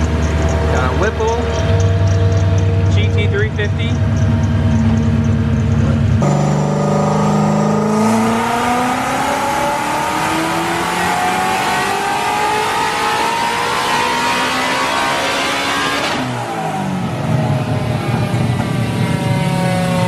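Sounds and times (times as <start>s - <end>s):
supercharged engine full-throttle pull: 0.0s - 19.2s.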